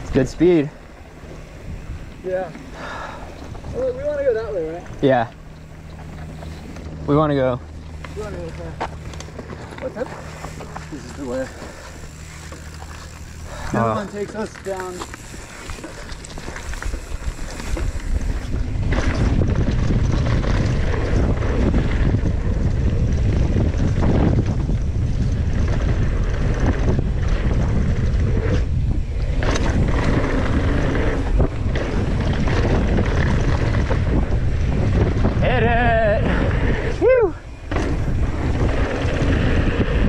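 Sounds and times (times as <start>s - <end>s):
bike tyres rolling on gravel: 0.0s - 40.0s
wind buffeting microphone: 0.0s - 40.0s.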